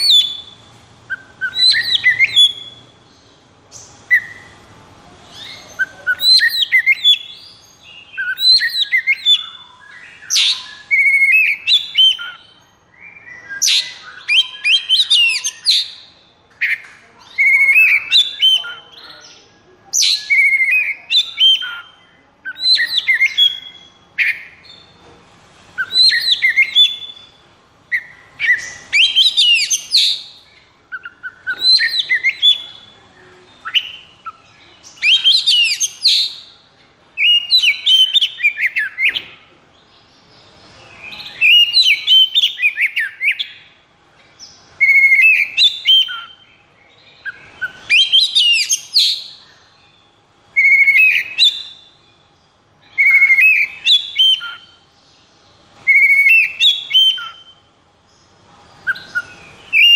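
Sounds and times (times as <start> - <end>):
bird whistles and trills: 0.0 - 2.9, 3.7 - 4.6, 5.3 - 19.2, 19.9 - 25.0, 25.8 - 33.0, 33.6 - 36.6, 37.2 - 39.4, 41.0 - 43.8, 44.8 - 46.5, 47.2 - 49.5, 50.5 - 52.2, 52.8 - 54.8, 55.8 - 57.7, 58.8 - 59.9.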